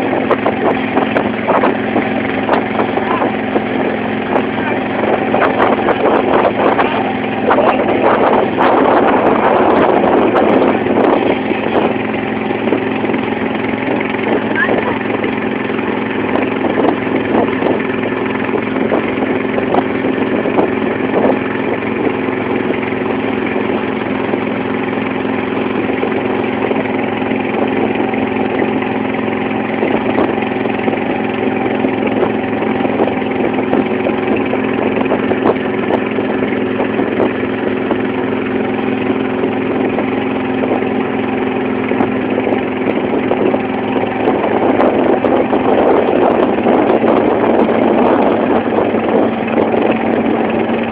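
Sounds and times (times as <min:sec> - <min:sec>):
motorboat engine running: 0:00.0 - 0:50.9.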